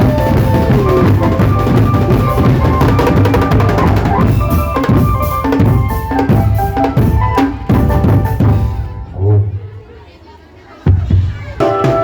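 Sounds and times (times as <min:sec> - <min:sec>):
drum band playing: 0:00.0 - 0:09.2, 0:10.9 - 0:12.0.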